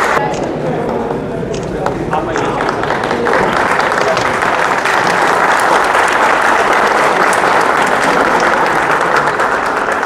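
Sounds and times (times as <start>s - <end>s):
crowd applauding: 0.0s - 0.2s, 1.8s - 10.0s.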